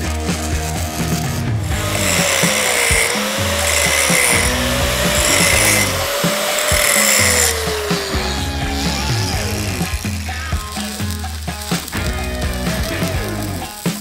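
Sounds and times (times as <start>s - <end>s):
angle grinder grinding metal: 0.0s - 14.0s
background music: 0.0s - 14.0s.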